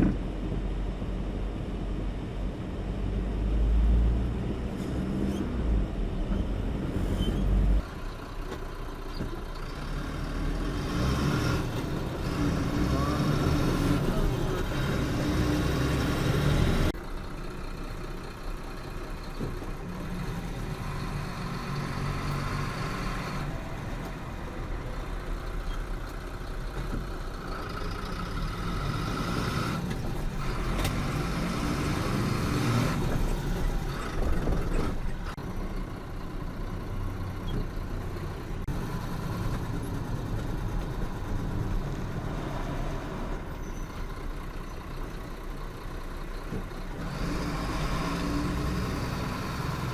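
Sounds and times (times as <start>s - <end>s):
truck engine and road noise: 0.0s - 49.9s.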